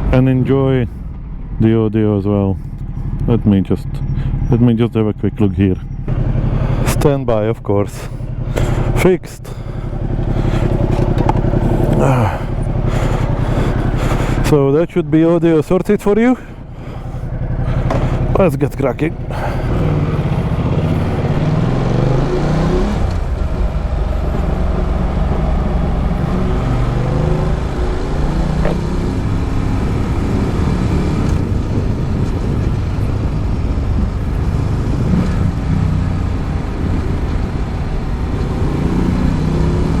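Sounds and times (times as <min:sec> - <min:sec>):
motorcycle exhaust pulling away: 0:05.8 - 0:07.0, 0:08.1 - 0:40.0.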